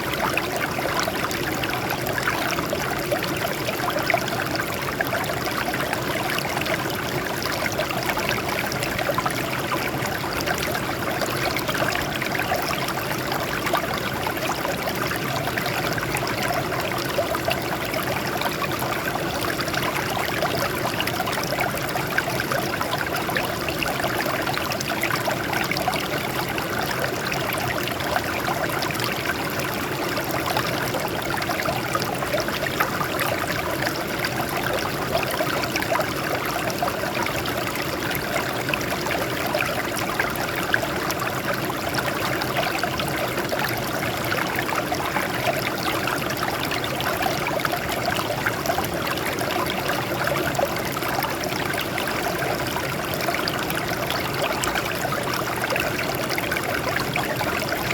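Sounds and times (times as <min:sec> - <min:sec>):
stream trickling over rocks: 0:00.0 - 0:57.9.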